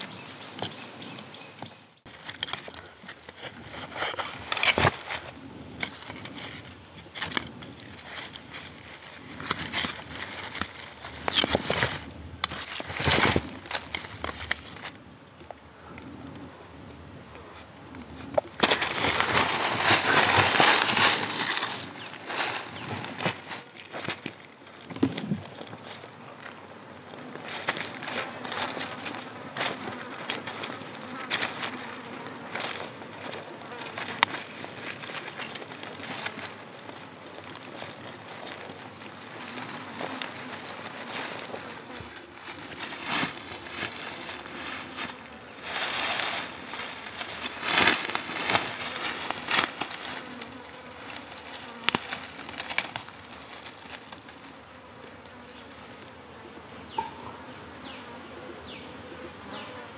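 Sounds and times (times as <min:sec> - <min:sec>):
handling rustles and knocks: 0:00.0 - 0:16.4, 0:17.4 - 0:56.2
insects buzzing: 0:00.0 - 0:59.9.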